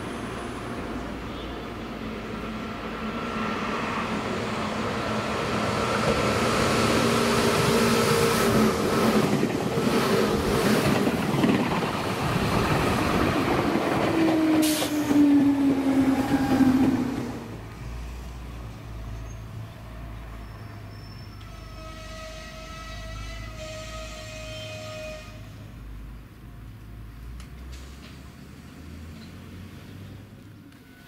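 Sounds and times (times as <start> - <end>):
electric train passing: 0.0 - 25.9
train humming tone: 0.0 - 25.9.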